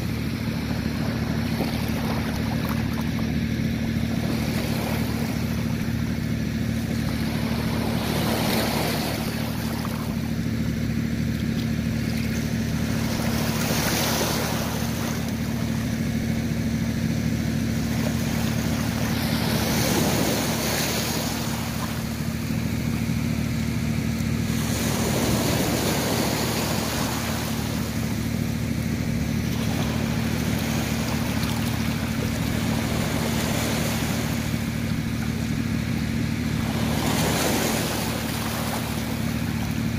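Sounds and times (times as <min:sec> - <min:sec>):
low motor hum: 0:00.0 - 0:39.9
small waves washing on beach: 0:00.0 - 0:39.9.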